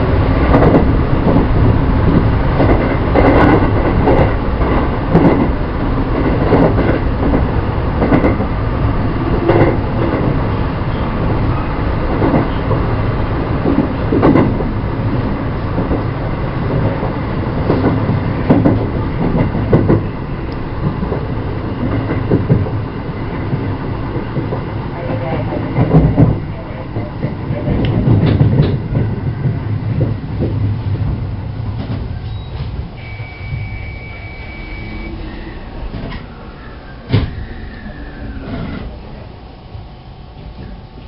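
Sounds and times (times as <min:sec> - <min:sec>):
train rumble: 0:00.0 - 0:41.0.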